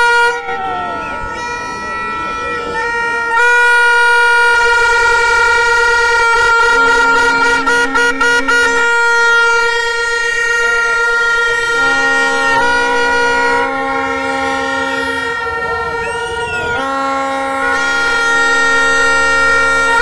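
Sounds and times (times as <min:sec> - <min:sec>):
low-pitched horn: 0:00.0 - 0:20.0
stadium horns droning: 0:00.0 - 0:20.0.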